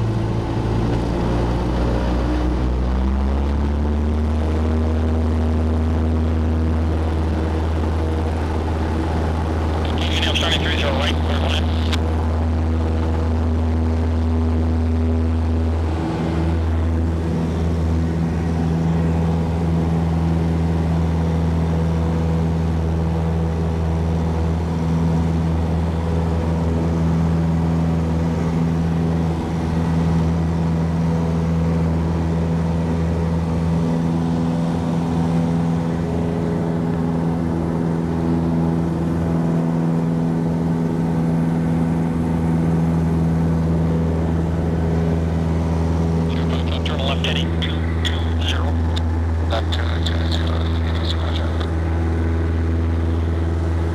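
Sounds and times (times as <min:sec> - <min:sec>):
propeller plane engine drone: 0:00.0 - 0:53.9.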